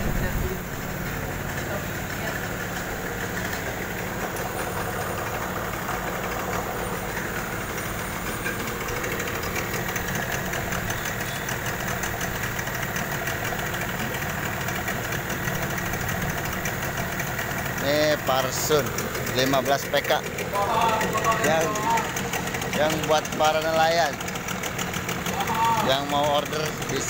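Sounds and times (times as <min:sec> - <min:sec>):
outboard motor idling: 0:00.0 - 0:27.0.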